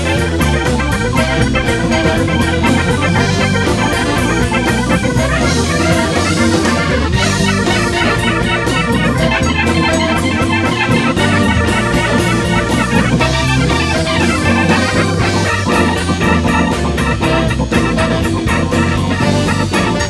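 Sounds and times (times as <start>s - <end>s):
organ: 0.0s - 20.0s
soul band playing: 0.0s - 20.0s.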